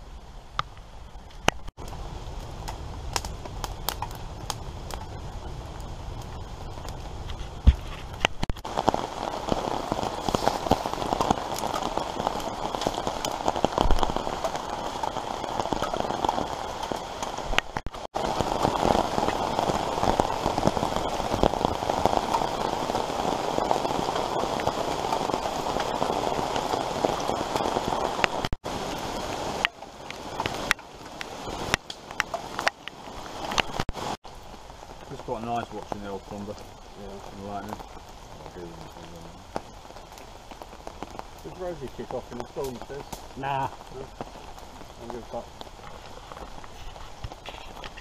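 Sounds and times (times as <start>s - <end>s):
rain pattering on tarp and leaves: 0.0s - 48.0s.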